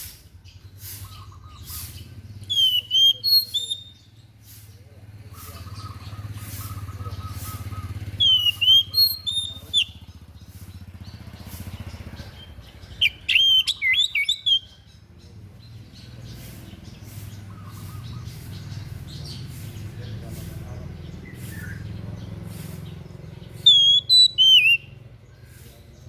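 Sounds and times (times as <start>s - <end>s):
songbird chirping and whistling: 0.6s - 4.4s, 5.3s - 20.0s, 21.2s - 25.9s.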